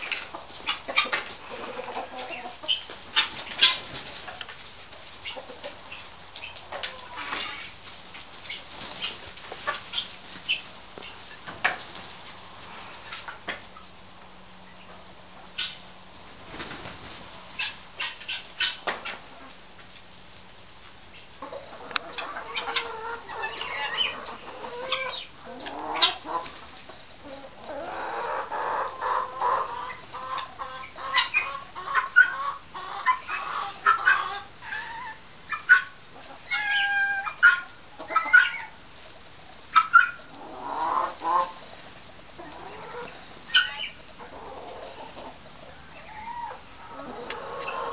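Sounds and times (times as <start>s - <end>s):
chickens clucking and squawking: 0.0s - 47.9s.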